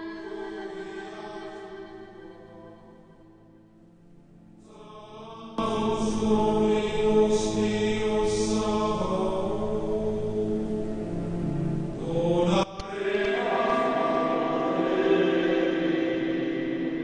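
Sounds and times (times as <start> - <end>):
droning chant-like music: 0.0 - 17.0.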